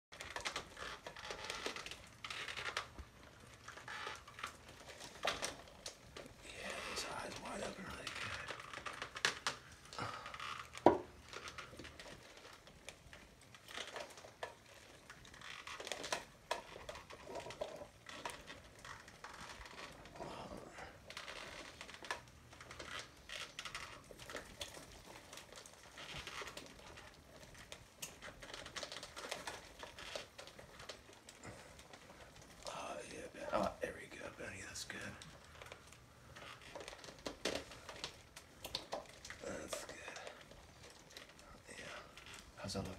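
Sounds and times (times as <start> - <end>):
puppet costume rustling and crinkling: 0.1 - 42.9.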